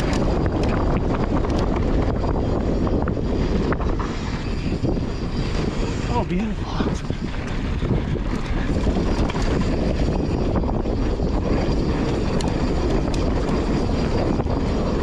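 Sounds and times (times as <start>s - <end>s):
bike clicks and rattles: 0.0s - 5.8s, 6.4s - 15.0s
wind on microphone: 0.0s - 15.0s.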